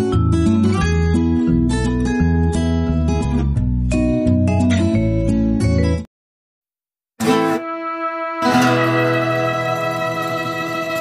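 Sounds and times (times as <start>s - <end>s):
background music with plucked notes: 0.0s - 6.1s, 7.2s - 11.0s.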